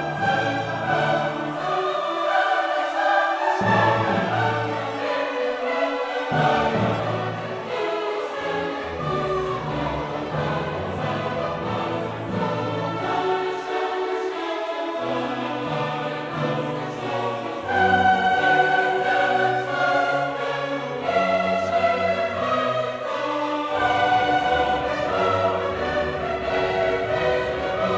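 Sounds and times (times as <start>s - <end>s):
choir singing classical music: 0.0s - 27.9s.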